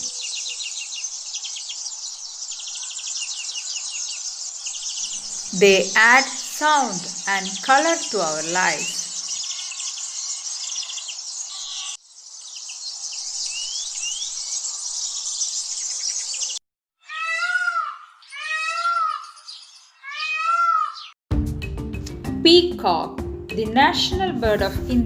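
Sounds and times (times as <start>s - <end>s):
chorus of chirping birds: 0.0s - 21.2s
loud drawn-out bird calls: 0.0s - 21.2s.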